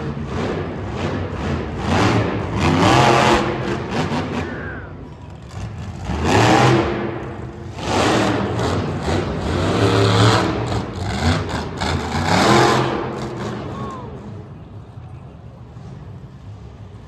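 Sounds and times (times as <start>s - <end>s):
truck engine revving hard: 0.0s - 14.6s.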